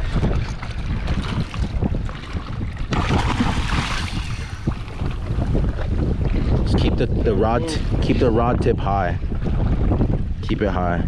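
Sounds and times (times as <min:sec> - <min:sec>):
water washing around kayak: 0:00.0 - 0:10.4
wind buffeting microphone: 0:00.0 - 0:11.0.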